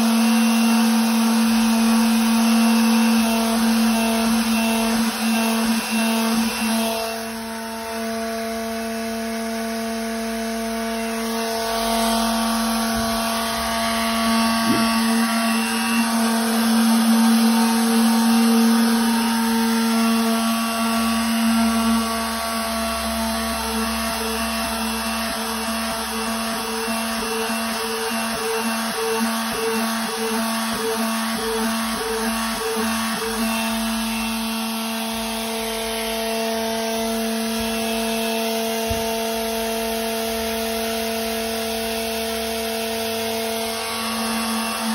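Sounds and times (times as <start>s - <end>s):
orbital sander motor hum: 0.0s - 44.9s.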